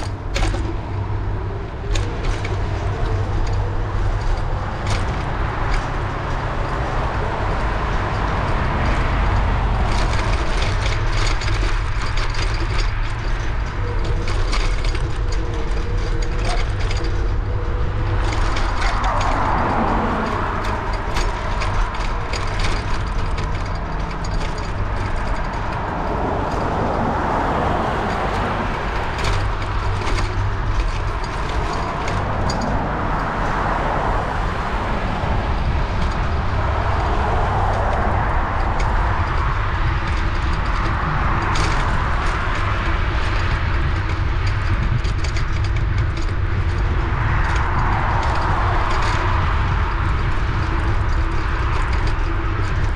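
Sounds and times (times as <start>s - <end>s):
passing traffic rush: 0.0s - 52.9s
wind buffeting microphone: 0.0s - 52.9s.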